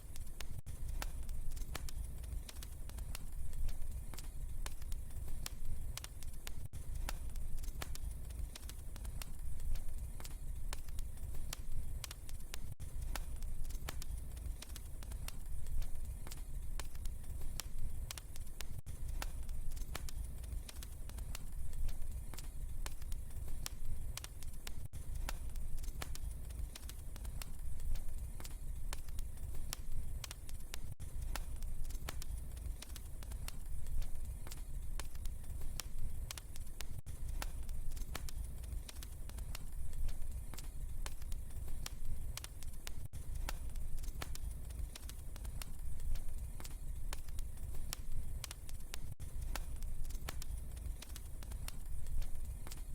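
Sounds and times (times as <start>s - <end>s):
pops and snaps: 0.0s - 52.9s
wood fire crackling: 0.0s - 52.9s
low rumble of flames: 0.1s - 52.9s.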